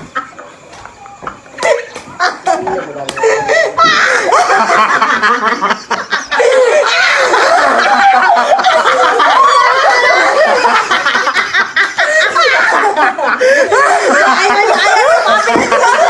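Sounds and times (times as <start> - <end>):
people laughing: 0.0 - 16.0.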